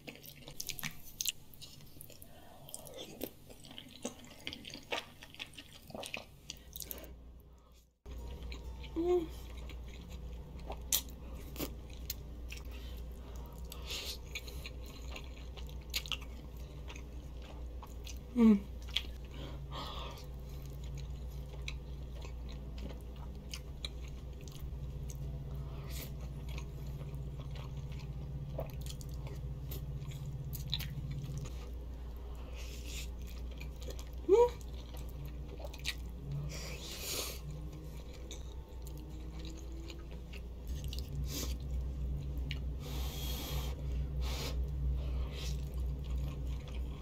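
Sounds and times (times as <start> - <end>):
wet chewing sounds: 0.0 - 7.1, 8.1 - 19.4, 20.1 - 42.8, 43.7 - 47.0.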